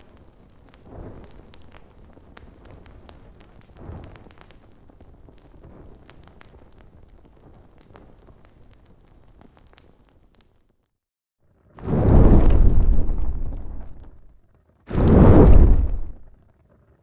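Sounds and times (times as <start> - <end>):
low rumble of flames: 0.0 - 9.8, 11.8 - 14.3, 14.9 - 16.3
fire crackling: 0.0 - 10.6, 11.8 - 14.3, 14.9 - 16.3.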